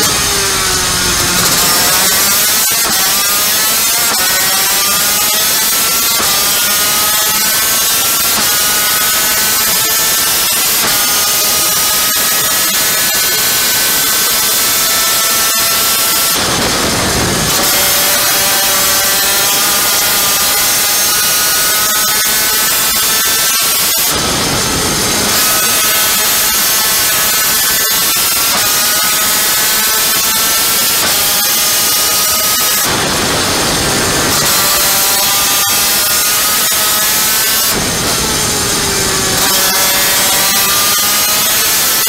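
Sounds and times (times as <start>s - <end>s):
two-stroke kart engine whine: 0.0s - 42.0s.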